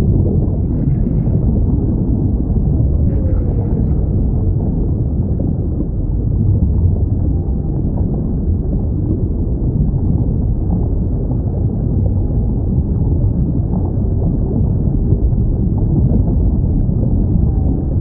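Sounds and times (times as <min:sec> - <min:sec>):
deep underwater rumble: 0:00.0 - 0:18.0
faint sea life sounds: 0:00.0 - 0:18.0.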